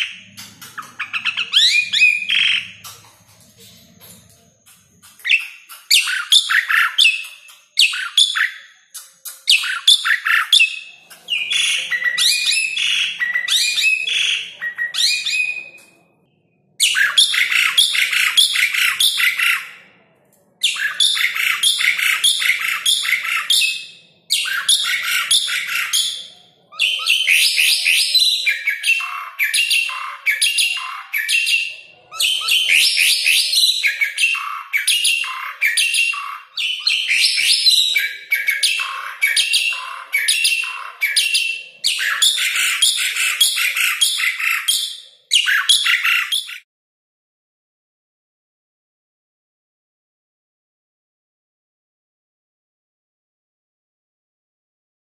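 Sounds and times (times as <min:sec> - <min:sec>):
starling singing: 0:00.0 - 0:16.0, 0:16.8 - 0:19.9, 0:20.6 - 0:46.6.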